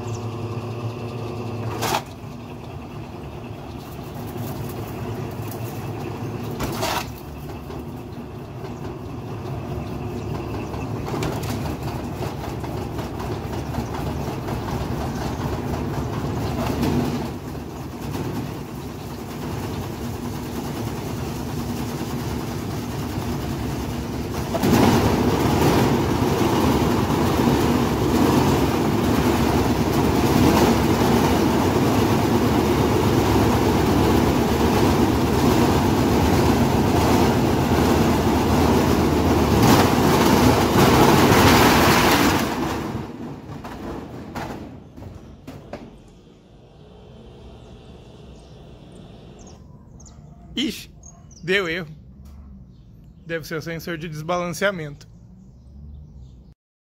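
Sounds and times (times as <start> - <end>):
washing machine spinning: 0.0 - 43.6, 44.2 - 51.4.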